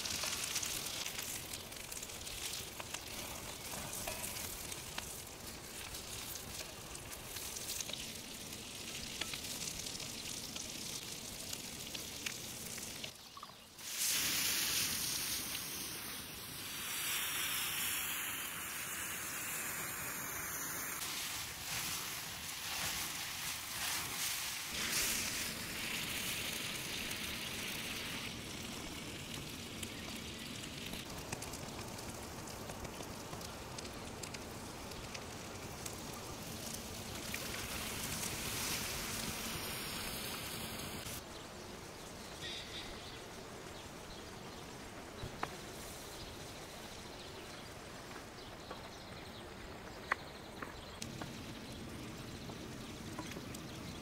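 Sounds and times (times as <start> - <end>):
mushrooms sizzling in a skillet: 0.0 - 49.4
fire crackling: 0.0 - 54.0.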